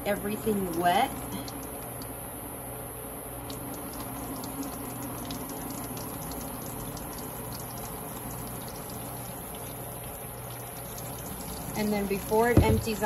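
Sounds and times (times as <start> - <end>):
water trickling and splashing: 0.0 - 2.2, 3.4 - 13.0.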